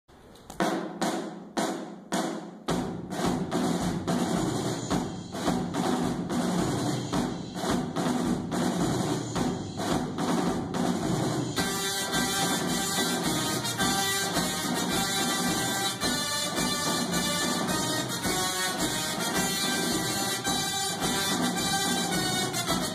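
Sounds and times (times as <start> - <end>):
music with heavy drum beat: 0.6 - 22.9.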